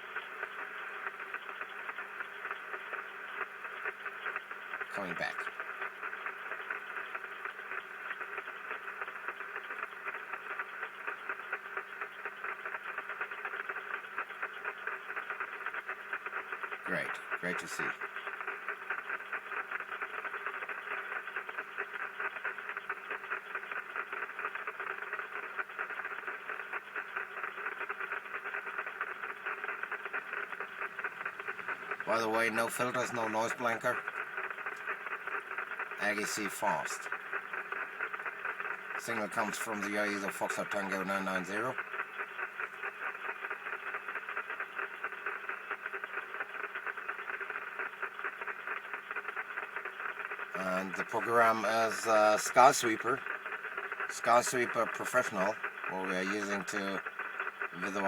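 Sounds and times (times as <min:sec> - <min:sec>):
radio static crackling hiss: 0:00.0 - 0:58.0.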